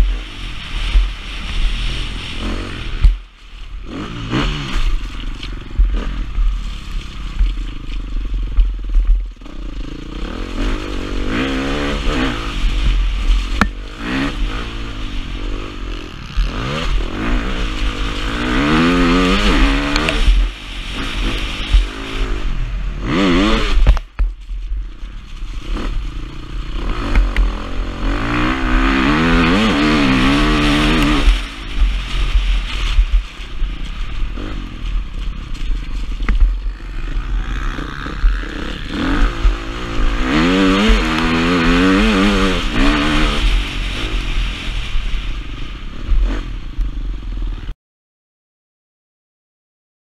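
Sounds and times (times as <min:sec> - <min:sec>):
motocross bike engine revving: 0:00.0 - 0:24.1, 0:24.9 - 0:47.7
wind rumble on microphone: 0:00.0 - 0:47.7.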